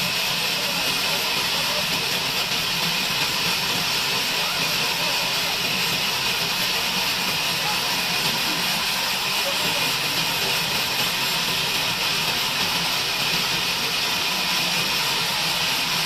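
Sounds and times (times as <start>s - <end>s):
bandsaw running: 0.0s - 16.0s.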